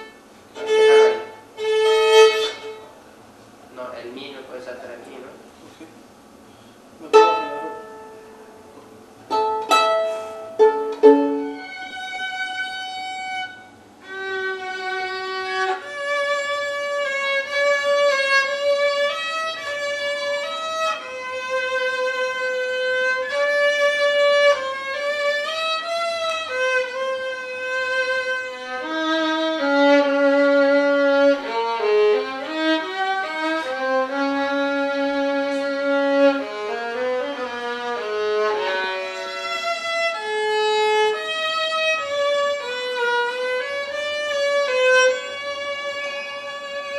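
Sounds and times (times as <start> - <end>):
violin playing: 0.0 - 3.0, 7.0 - 46.9.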